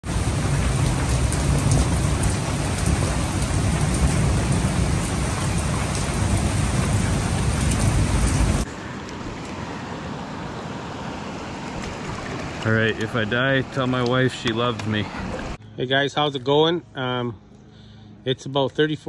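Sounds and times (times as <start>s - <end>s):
river water rushing: 0.0s - 15.6s.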